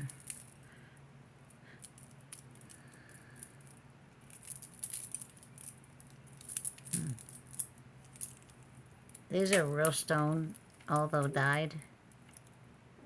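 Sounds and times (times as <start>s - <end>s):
beads and chain jingling: 0.0s - 0.6s, 1.8s - 12.6s
faint low hum: 0.0s - 13.0s.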